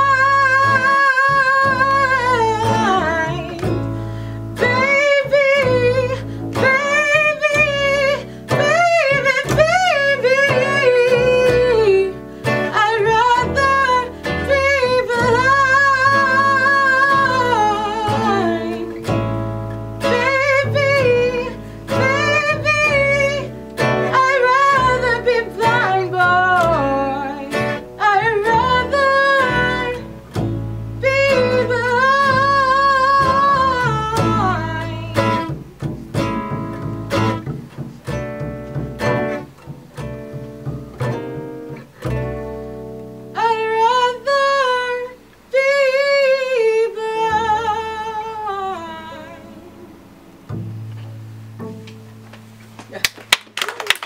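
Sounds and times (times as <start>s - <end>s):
woman singing with vibrato: 0.0s - 37.5s, 43.3s - 50.3s
upright double bass: 0.0s - 45.6s, 46.9s - 52.8s
fingerpicked acoustic guitar: 0.0s - 53.0s.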